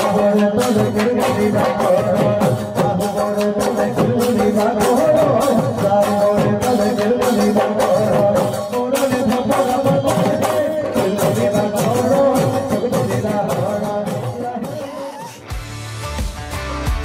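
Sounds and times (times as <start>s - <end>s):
man singing: 0.0s - 15.5s
dhol drums beating: 0.0s - 17.0s.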